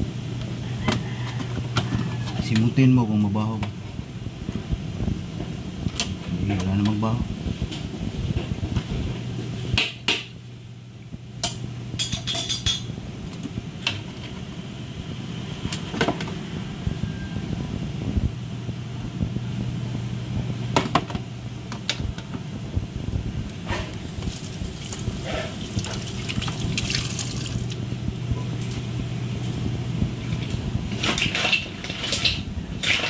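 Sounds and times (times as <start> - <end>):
electric fan humming: 0.0 - 33.0.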